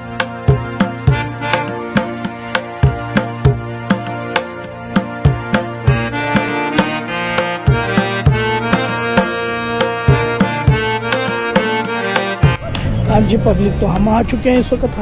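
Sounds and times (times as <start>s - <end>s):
sustained chords: 0.0s - 15.0s
steady drum beat: 0.1s - 12.6s.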